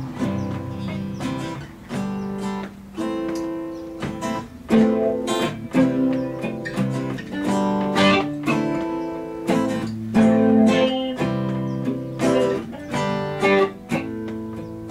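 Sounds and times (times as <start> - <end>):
guitar strummed and plucked: 0.0 - 14.9.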